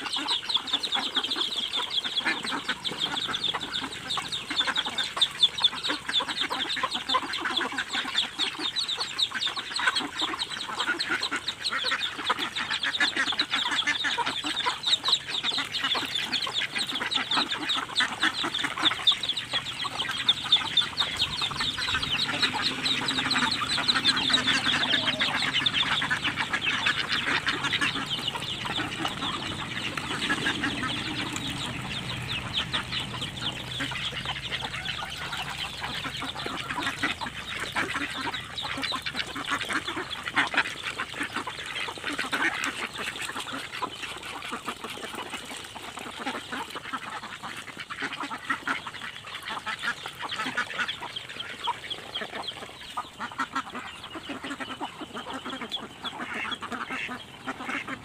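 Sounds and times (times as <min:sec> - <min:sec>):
duck bills pecking wet feed: 0:00.0 - 0:58.0
hens clucking: 0:00.0 - 0:58.0.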